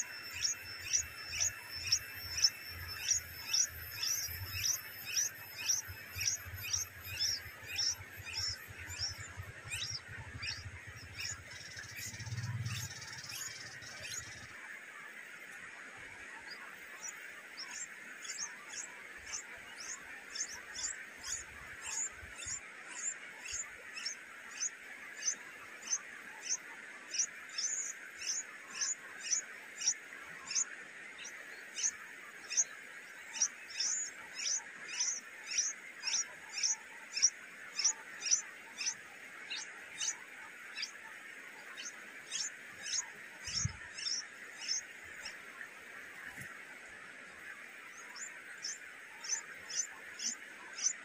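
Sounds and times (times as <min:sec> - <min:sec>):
nestling birds chirping: 0:00.0 - 0:14.5, 0:16.8 - 0:46.6, 0:47.4 - 0:51.0.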